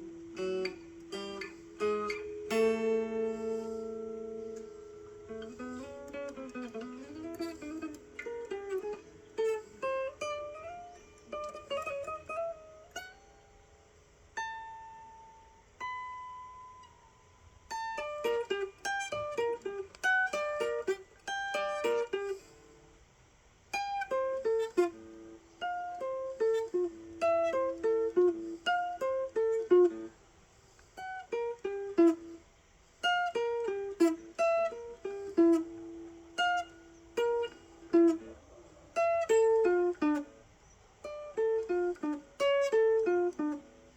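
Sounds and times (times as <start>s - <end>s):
solo guitar melody: 0.0s - 43.9s.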